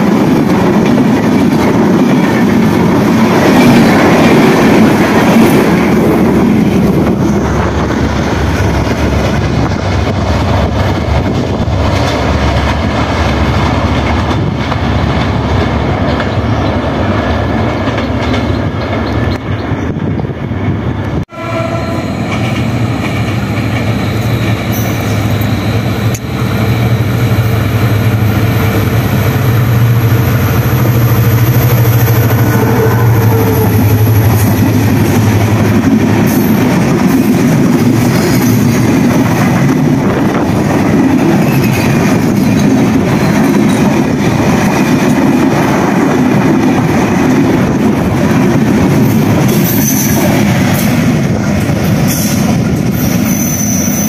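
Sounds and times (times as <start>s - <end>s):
train wheels clattering on rails: 0.0s - 21.2s, 21.9s - 54.0s
locomotive engine hum: 0.0s - 53.3s.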